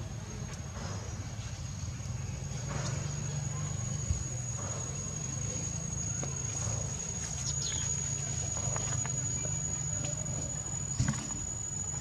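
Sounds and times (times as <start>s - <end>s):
thin high-pitched whine: 0.0s - 12.0s
faint high chirps: 2.3s - 12.0s.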